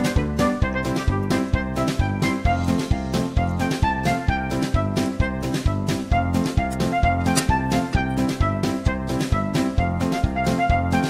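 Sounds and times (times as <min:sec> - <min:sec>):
upbeat playful instrumental music: 0:00.0 - 0:11.0.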